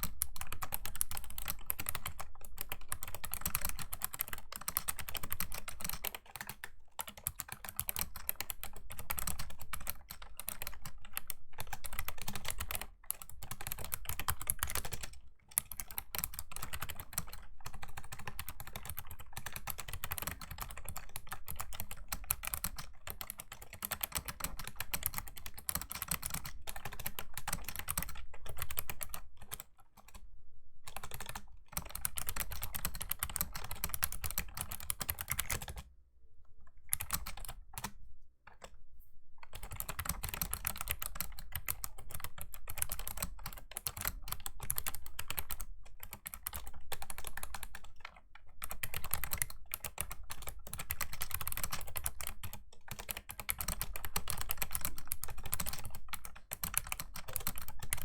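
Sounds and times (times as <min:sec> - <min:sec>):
fast typing on clicky keyboard: 0:00.0 - 0:35.9, 0:36.9 - 0:38.8, 0:39.4 - 0:58.0.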